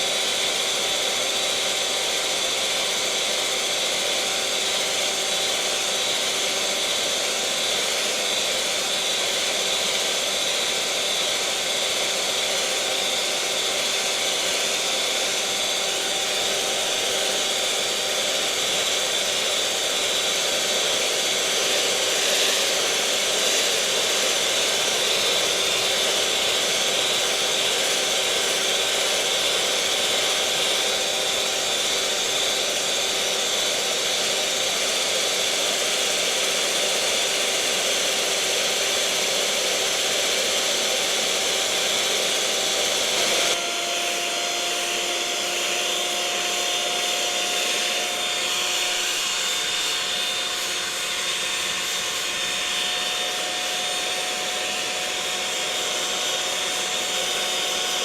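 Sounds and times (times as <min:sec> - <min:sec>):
electric mixer motor whirring: 0:00.0 - 0:58.0.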